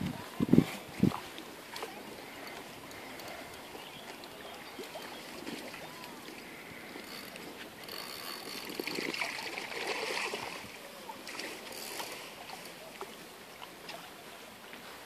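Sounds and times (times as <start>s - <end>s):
lakeshore water: 0.0s - 15.0s
wind: 0.0s - 15.0s.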